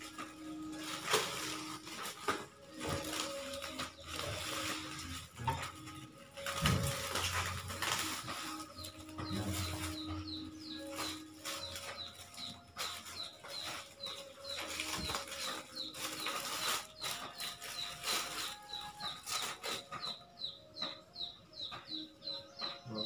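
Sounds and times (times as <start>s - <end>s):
plastic bag and paper rustling: 0.0s - 20.6s
small bird chirping: 3.1s - 23.0s.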